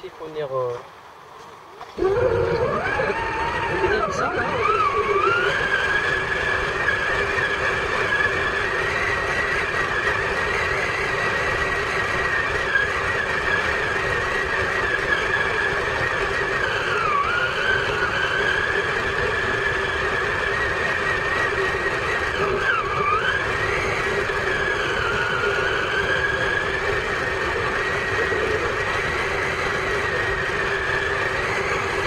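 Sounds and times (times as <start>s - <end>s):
small electric motor whine: 1.7s - 32.0s.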